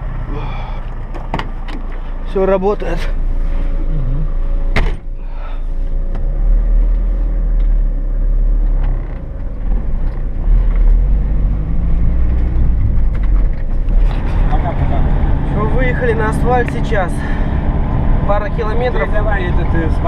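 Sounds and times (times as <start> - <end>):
van engine and road rumble: 0.0 - 20.0.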